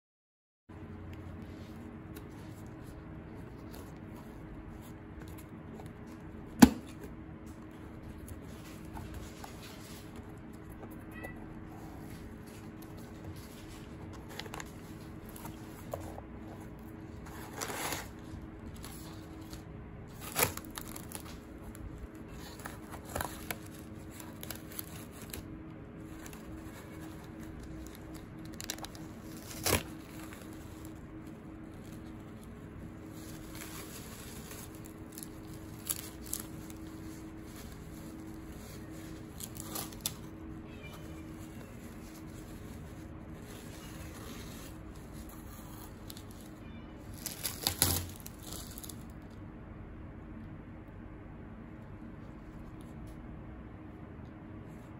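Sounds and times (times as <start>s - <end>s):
faint steady hum: 0.7s - 54.9s
paper wrapping rustling: 0.9s - 49.1s.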